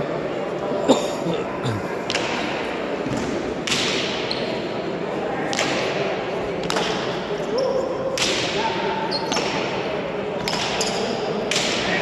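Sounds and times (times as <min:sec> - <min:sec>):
murmur of spectators: 0:00.0 - 0:12.0.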